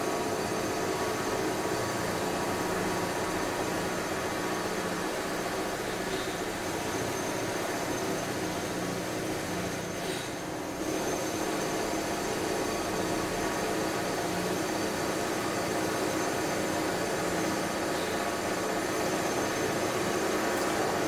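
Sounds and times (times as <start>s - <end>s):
construction machinery noise: 0.0s - 21.0s.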